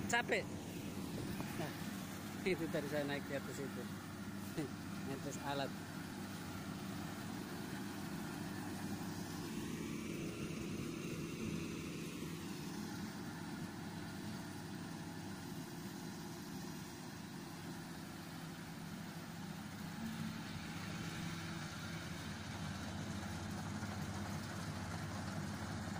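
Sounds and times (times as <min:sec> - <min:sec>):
engine idling: 0:00.0 - 0:25.9.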